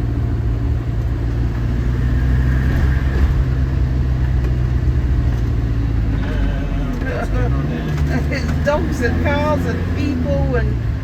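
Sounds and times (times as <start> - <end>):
motorhome engine running: 0.0 - 11.0
road noise: 0.0 - 11.0.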